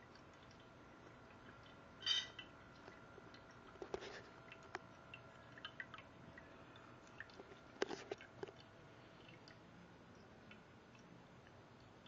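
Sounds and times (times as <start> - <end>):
kittens lapping water: 0.0 - 12.0.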